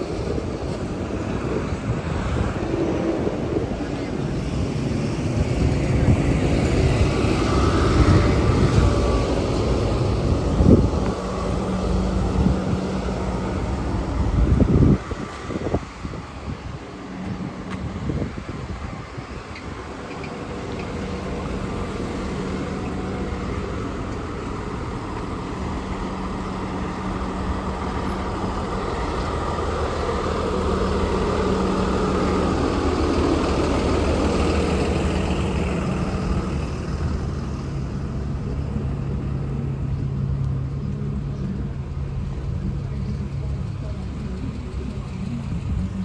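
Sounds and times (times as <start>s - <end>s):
street traffic hum: 0.0s - 46.0s.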